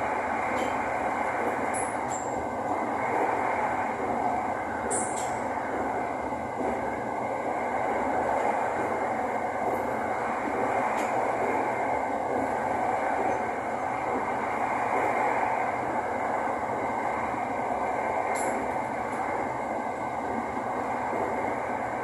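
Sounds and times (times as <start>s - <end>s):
train wheels rolling on rail: 0.0s - 22.0s.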